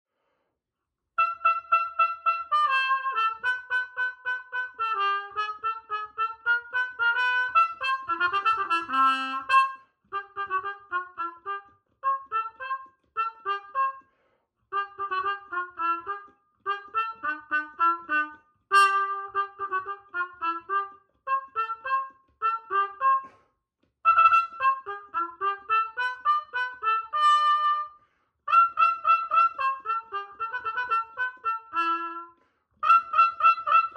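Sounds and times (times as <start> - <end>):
muted cornet playing march tune: 1.2 - 14.0, 14.7 - 23.4, 24.0 - 33.9.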